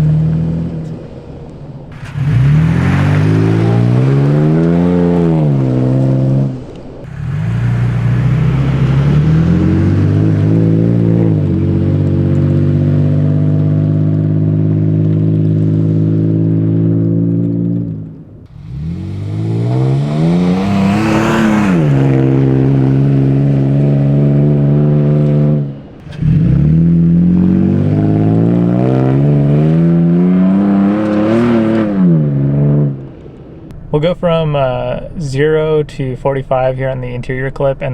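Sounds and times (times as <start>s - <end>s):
truck engine revving: 0.0s - 37.9s.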